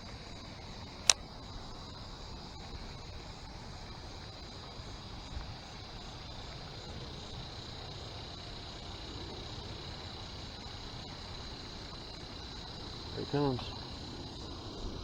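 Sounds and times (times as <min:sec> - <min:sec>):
insect chorus trilling: 0:00.0 - 0:15.0.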